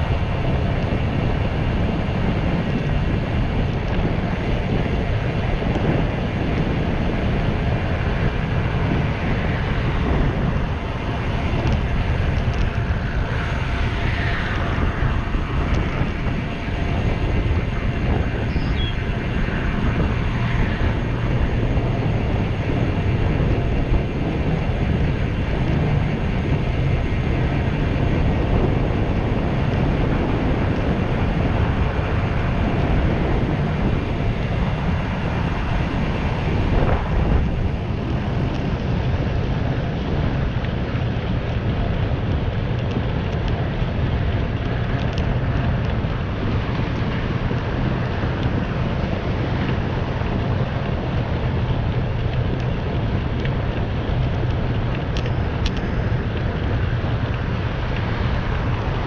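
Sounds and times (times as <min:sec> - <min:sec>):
bicycle rolling on pavement: 0:00.0 - 0:59.0
wind rush on microphone: 0:00.0 - 0:59.0.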